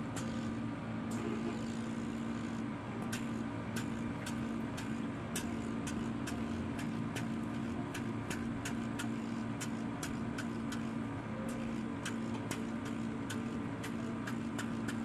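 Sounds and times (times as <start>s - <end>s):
machine motor hum: 0.0s - 15.0s
sharp regular clicks: 2.5s - 15.0s.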